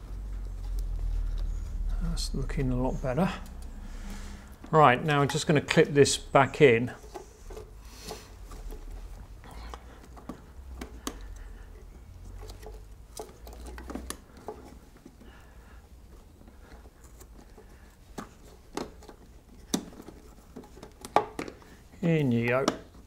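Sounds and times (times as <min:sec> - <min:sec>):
hands rubbing plastic: 0:00.0 - 0:23.0.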